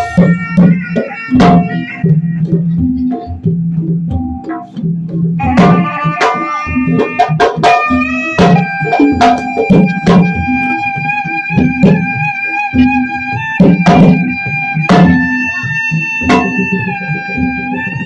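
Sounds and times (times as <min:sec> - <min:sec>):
drums playing steady rhythm: 0:00.0 - 0:18.0.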